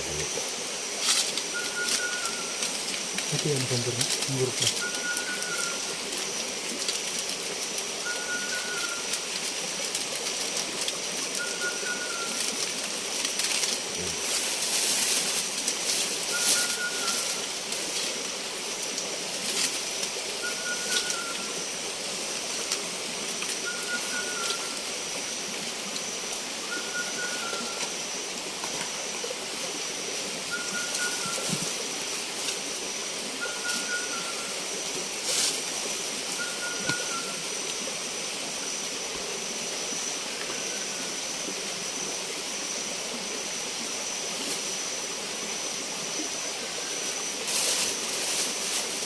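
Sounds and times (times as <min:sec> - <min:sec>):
high-pitched insect drone: 0:00.0 - 0:09.8, 0:11.1 - 0:18.7, 0:19.4 - 0:49.0
constant hiss: 0:00.0 - 0:49.0.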